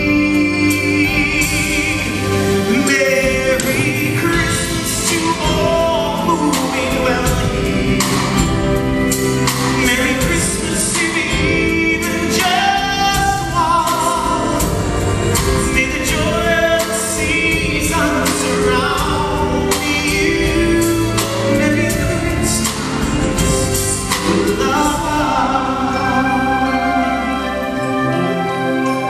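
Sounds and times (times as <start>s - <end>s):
man singing into microphone: 0.0s - 27.4s
instrumental accompaniment: 0.0s - 29.0s.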